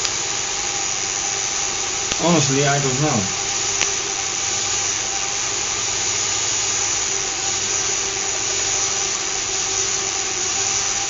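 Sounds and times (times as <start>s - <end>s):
faint constant hum: 0.0s - 11.0s
small electric motors whirring: 0.0s - 11.0s.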